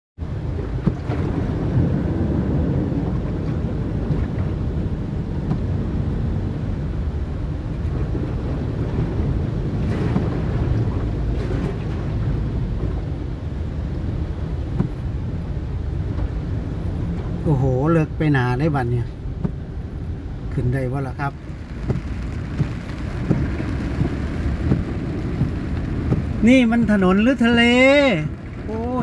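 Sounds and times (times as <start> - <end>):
car engine rumbling: 0.2 - 29.0
water rushing and sloshing: 0.2 - 29.0.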